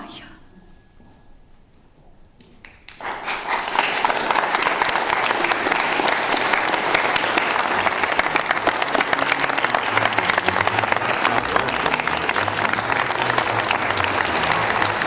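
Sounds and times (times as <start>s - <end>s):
audience applauding: 2.6s - 15.0s.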